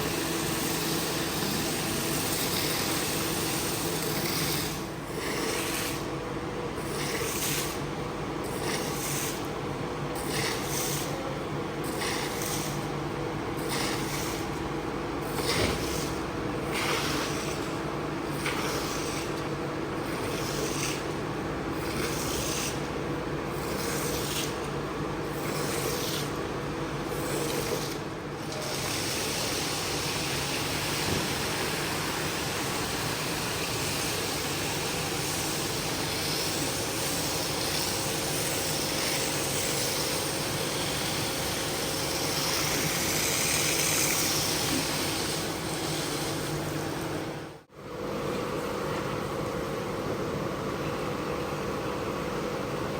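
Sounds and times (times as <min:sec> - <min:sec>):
machine hum and hiss: 0:00.0 - 0:52.9.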